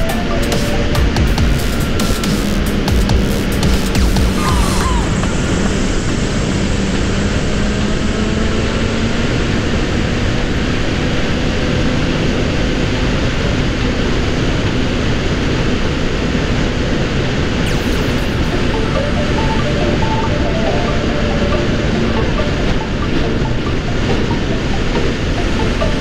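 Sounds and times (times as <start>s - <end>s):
motorcycle engine humming: 0.0s - 26.0s
wind rushing over microphone: 4.3s - 26.0s.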